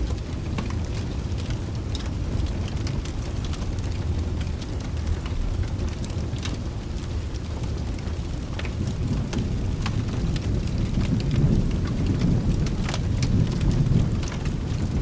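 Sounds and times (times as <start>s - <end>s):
steady rain: 0.0s - 15.0s
thunder rumble: 0.0s - 15.0s.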